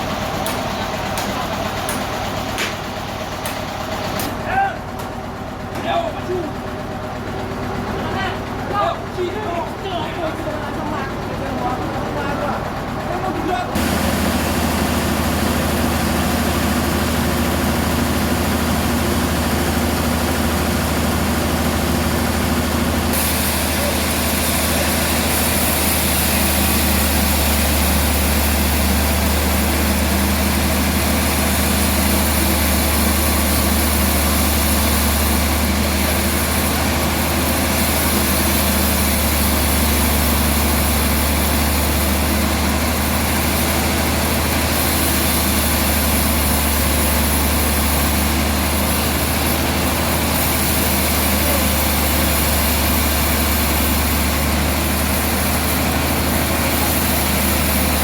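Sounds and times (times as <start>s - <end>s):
sawmill motor hum: 0.0s - 58.0s
machinery rushing noise: 7.8s - 58.0s.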